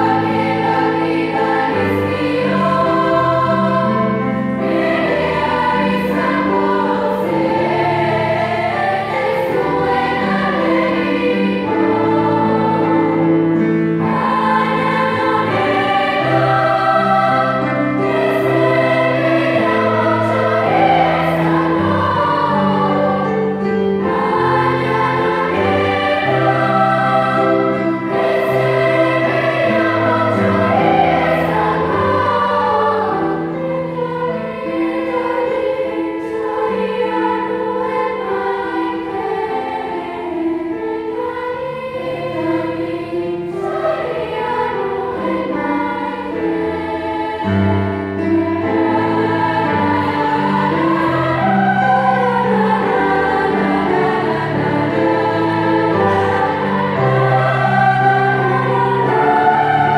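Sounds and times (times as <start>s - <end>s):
children's choir singing: 0.0s - 59.9s
piano accompaniment: 0.0s - 59.9s.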